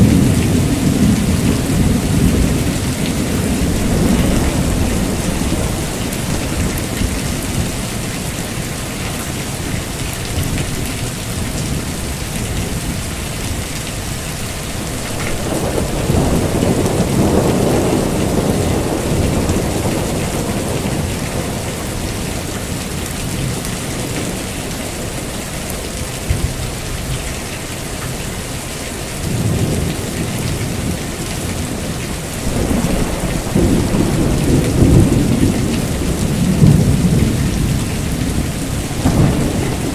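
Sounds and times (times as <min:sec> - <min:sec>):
low rolling thunder: 0:00.0 - 0:27.1, 0:29.2 - 0:39.9
heavy rain falling: 0:00.0 - 0:39.9.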